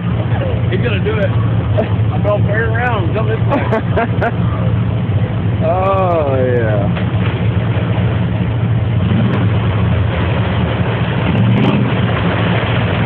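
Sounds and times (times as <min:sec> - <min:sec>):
pickup truck engine running hard: 0:00.0 - 0:13.0.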